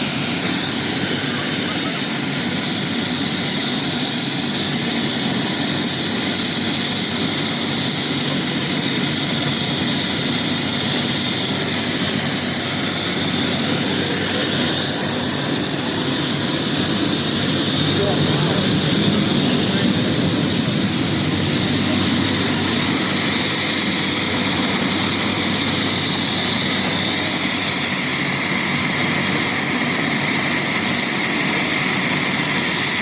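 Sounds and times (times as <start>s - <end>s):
helicopter turbine engine: 0.0s - 33.0s.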